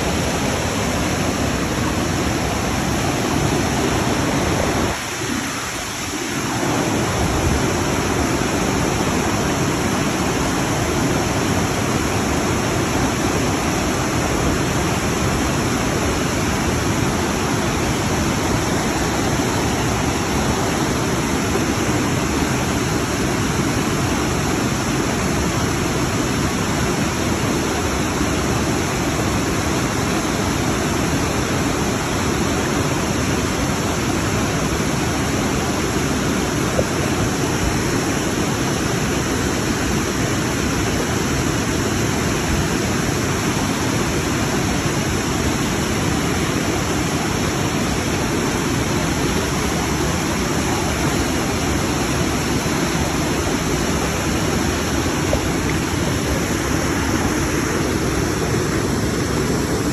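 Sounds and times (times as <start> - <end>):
mountain river rushing: 0.0 - 59.9.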